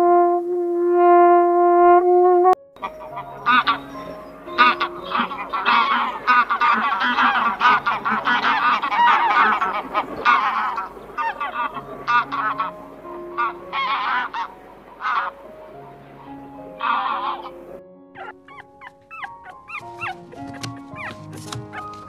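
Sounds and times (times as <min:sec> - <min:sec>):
geese honking: 0:02.8 - 0:22.0.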